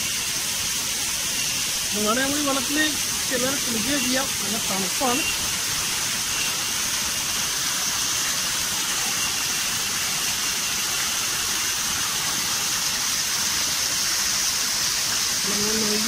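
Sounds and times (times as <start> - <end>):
cicadas droning: 0.0 - 16.0
waterfall splashing into pool: 0.0 - 16.0.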